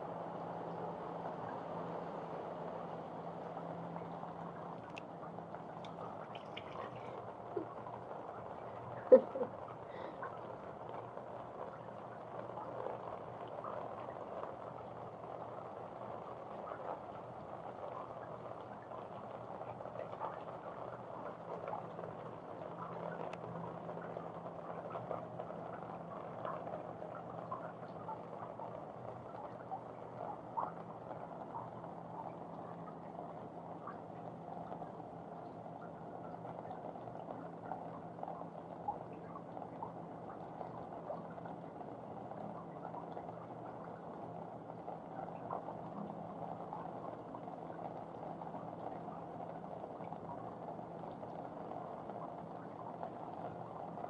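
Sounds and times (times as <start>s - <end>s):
faint low hum: 0.0s - 54.0s
rain pattering on a balcony: 0.0s - 54.0s.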